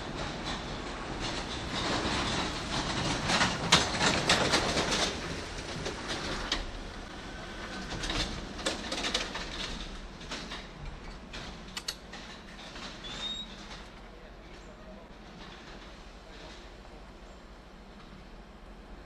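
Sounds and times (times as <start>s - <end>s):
wheels clicking on rails: 0.0s - 17.0s.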